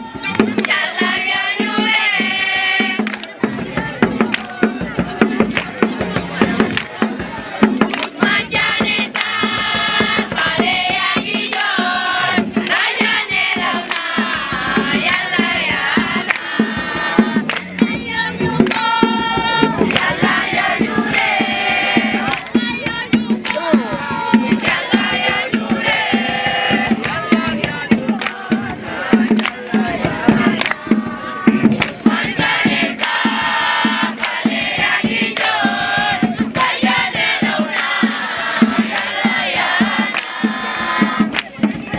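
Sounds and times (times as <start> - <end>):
group singing in chorus: 0.0 - 41.9
sharp beats: 5.2 - 41.9.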